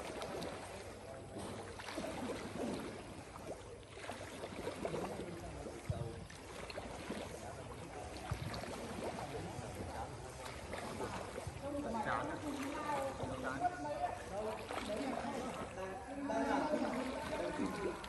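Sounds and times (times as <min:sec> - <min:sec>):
swimmer splashing water: 0:00.0 - 0:18.0.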